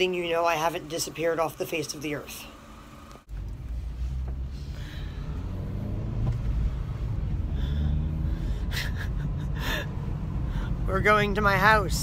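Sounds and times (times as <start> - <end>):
car engine: 0.0 - 12.0
road rumble: 0.0 - 12.0.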